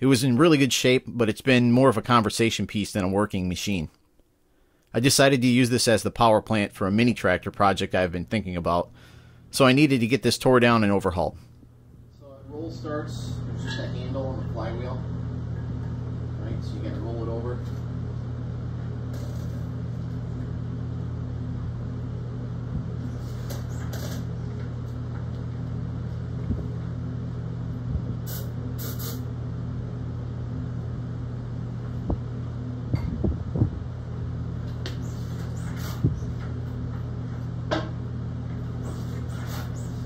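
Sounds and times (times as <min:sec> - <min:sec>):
low fan-like hum: 0:00.0 - 0:40.0.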